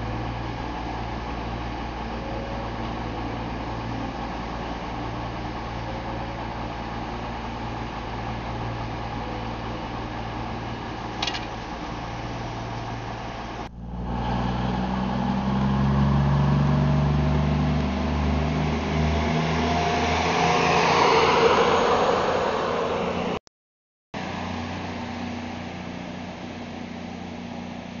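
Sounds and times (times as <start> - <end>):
electric train humming: 0.0 - 23.4, 24.2 - 28.0
train motor whine rising: 0.0 - 23.4.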